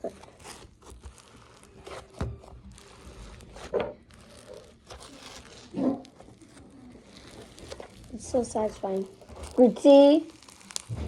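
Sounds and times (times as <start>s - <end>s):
slime squelches: 0.0s - 11.0s
slime stretched and squished: 0.0s - 11.0s.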